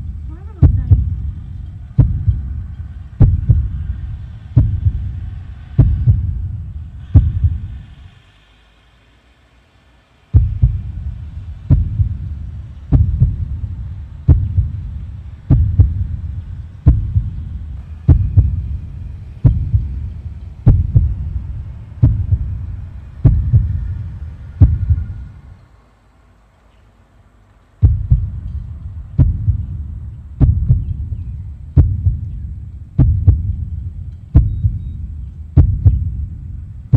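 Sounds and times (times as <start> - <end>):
deep heavy thumps: 0.0 - 7.9, 10.3 - 25.6, 27.8 - 36.9.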